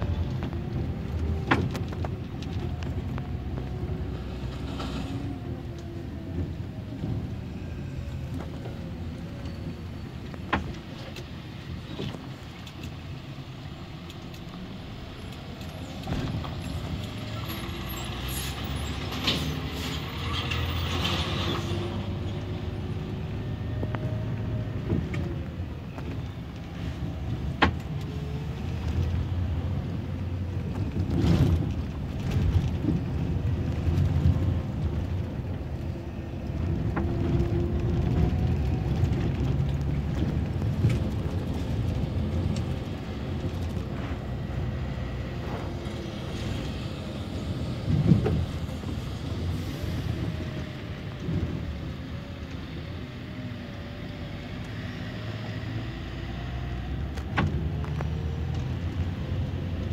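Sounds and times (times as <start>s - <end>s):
bus diesel engine rumble: 0.0s - 59.9s.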